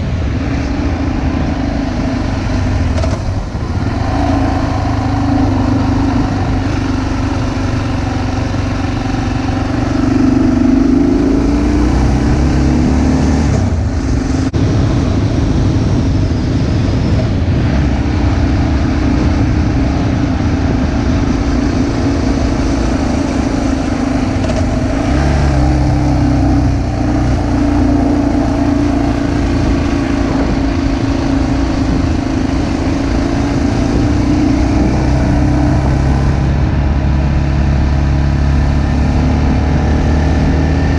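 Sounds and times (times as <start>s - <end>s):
car engine running: 0.0s - 40.9s
road and wind noise: 0.0s - 40.9s.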